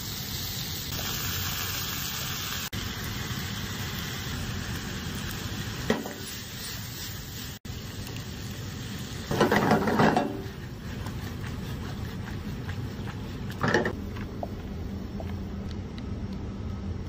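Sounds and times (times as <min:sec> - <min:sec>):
pasta cooking in a pan: 0:00.0 - 0:15.5
steady background hum: 0:02.8 - 0:17.0.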